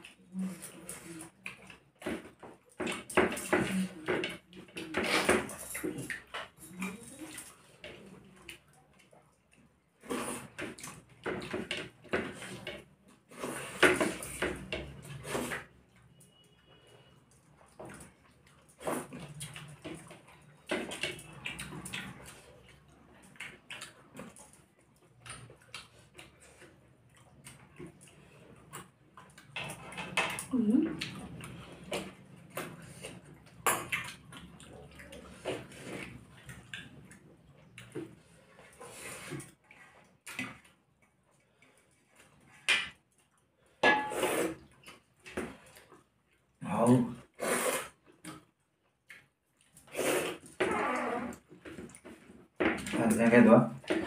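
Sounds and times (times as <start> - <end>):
chewing and smacking: 0.0 - 43.8, 44.6 - 46.6, 47.2 - 53.2.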